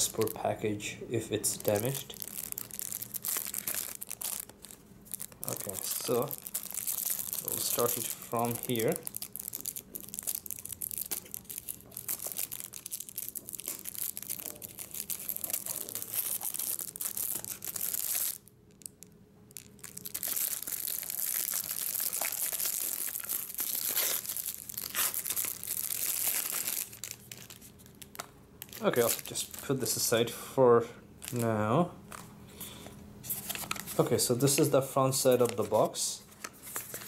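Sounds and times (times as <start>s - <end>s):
plastic wrap crinkling and tearing: 0.0s - 0.6s, 1.4s - 30.1s, 33.3s - 37.0s.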